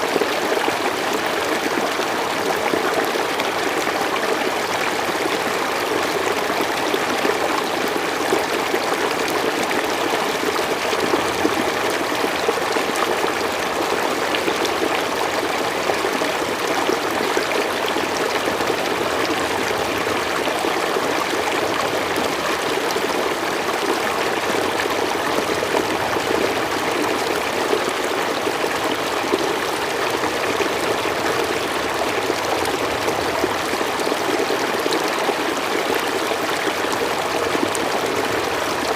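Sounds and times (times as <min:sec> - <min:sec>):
river water flowing over stones: 0:00.0 - 0:38.9.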